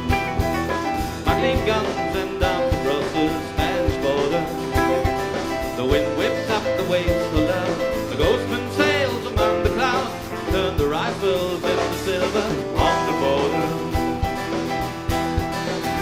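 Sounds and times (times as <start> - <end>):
bass drum beats: 0.0 - 16.0
live rock band playing: 0.0 - 16.0.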